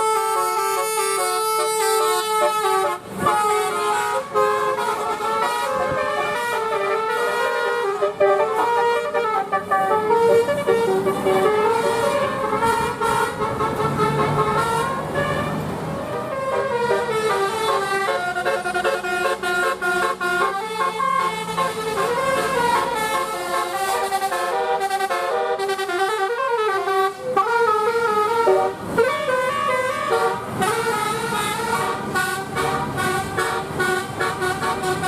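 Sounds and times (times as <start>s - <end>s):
bus engine running: 0.0s - 35.0s
bus musical air horn: 0.0s - 35.0s.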